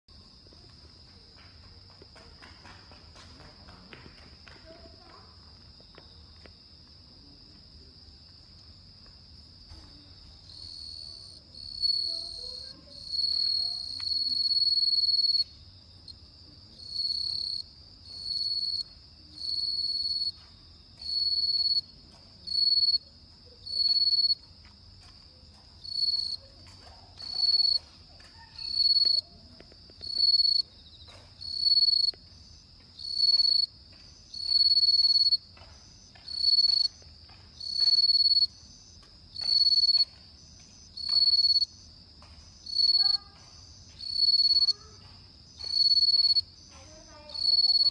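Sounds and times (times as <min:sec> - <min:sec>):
cricket chirping: 0:00.1 - 0:47.9.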